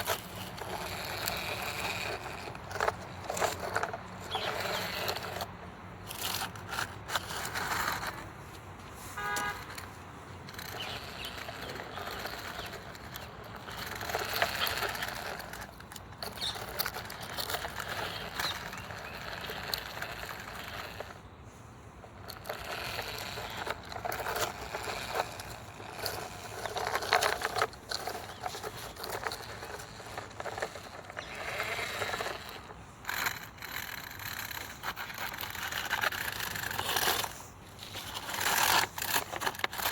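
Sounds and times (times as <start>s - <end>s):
toy car wheels crunching on ground: 0.0s - 39.9s.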